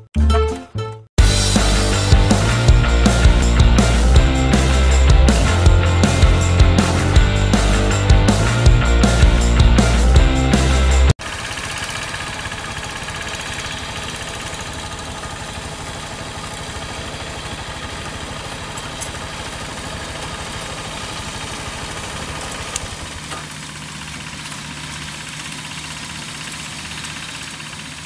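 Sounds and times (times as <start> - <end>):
diesel engine running: 1.2 - 28.0.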